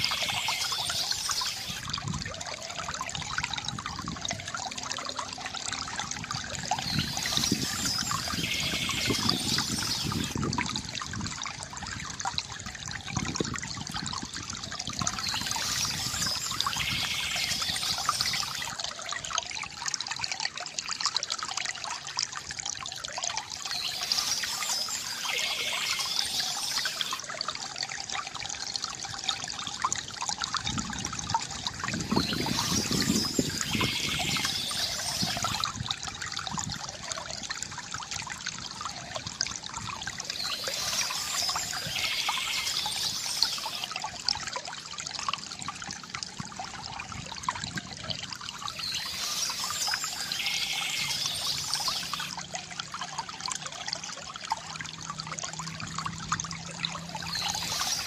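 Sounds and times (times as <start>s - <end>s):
water trickling from bamboo fountain: 0.0s - 58.0s.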